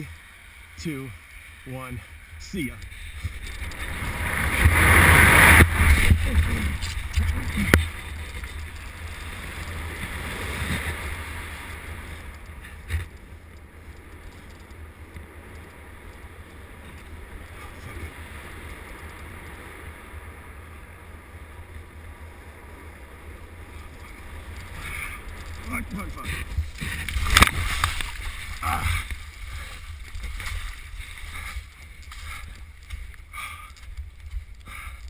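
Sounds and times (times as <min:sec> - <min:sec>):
wind rushing over microphone: 0:02.2 - 0:35.0.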